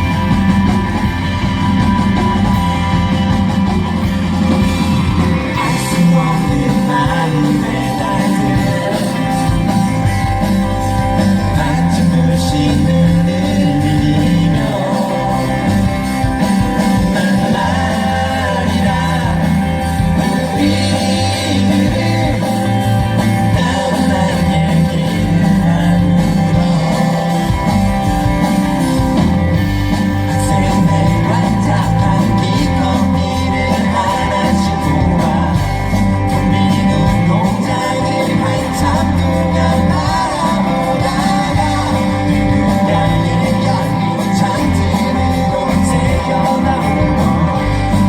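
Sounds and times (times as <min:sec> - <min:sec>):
bass guitar: 0:00.0 - 0:48.0
drums: 0:00.0 - 0:48.0
electric guitar: 0:00.0 - 0:48.0
person singing: 0:00.0 - 0:48.0.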